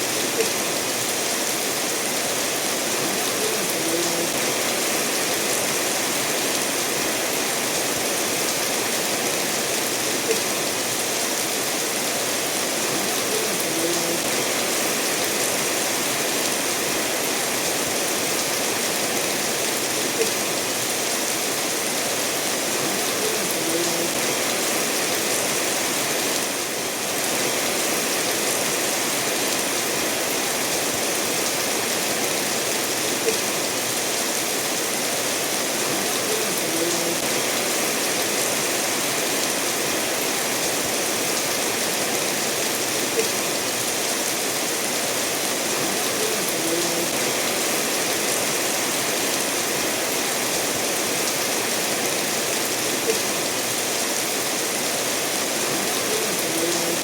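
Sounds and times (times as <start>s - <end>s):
steady rainfall: 0.0s - 57.0s
stream flowing over stones: 0.0s - 57.0s.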